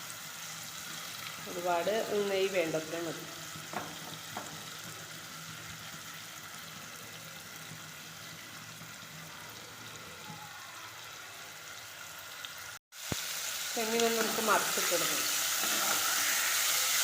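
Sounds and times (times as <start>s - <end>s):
prawns sizzling in oil: 0.0s - 17.0s.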